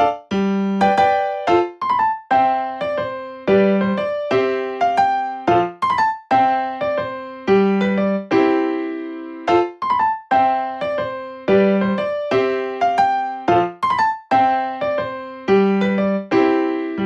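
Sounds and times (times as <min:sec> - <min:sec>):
keyboard playing light melody: 0:00.0 - 0:17.0.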